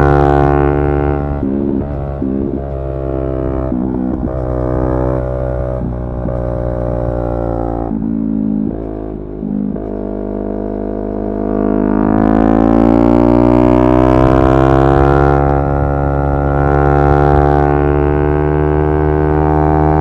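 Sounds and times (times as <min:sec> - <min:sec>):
motorcycle engine and exhaust: 0:00.0 - 0:20.0.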